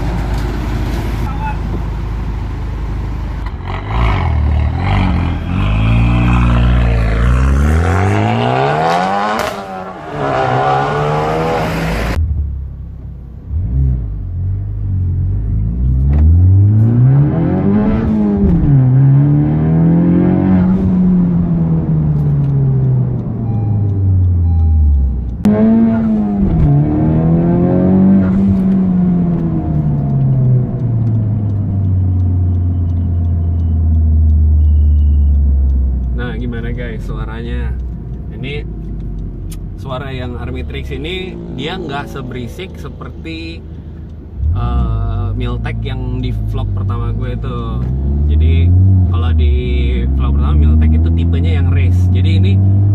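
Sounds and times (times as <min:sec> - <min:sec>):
car engine revving: 0:03.4 - 0:12.8, 0:13.4 - 0:52.9.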